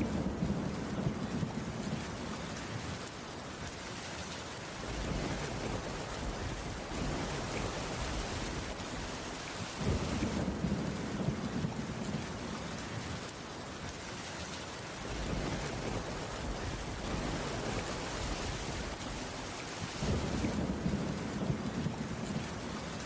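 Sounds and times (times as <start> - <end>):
low thunder rumble: 0.0 - 2.8, 4.8 - 12.8, 15.0 - 23.0
rain on a wooden roof: 0.0 - 23.0.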